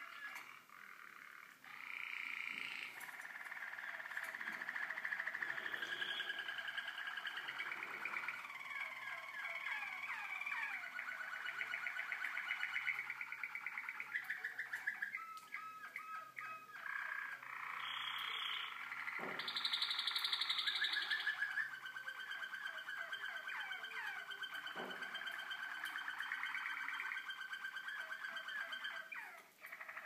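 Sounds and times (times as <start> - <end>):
canaries singing: 0.0 - 30.0.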